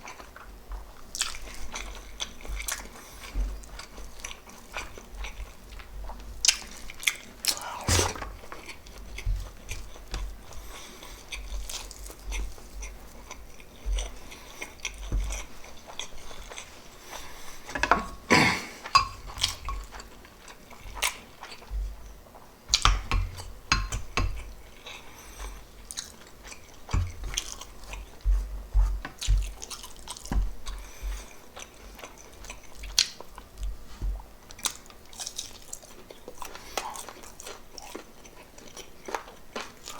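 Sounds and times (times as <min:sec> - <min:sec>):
wet chewing and smacking: 0:00.0 - 0:17.7, 0:18.8 - 0:39.9.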